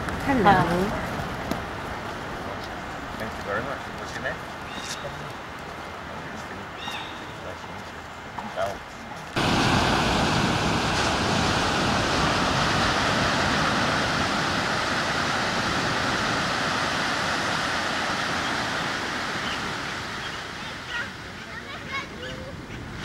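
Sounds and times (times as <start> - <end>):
surf washing onto beach: 0.0 - 23.0.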